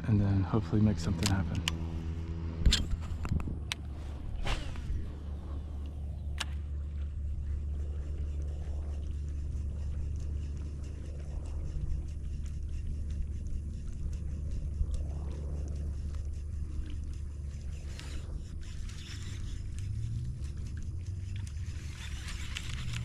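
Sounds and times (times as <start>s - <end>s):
wind buffeting microphone: 0.8s - 23.0s.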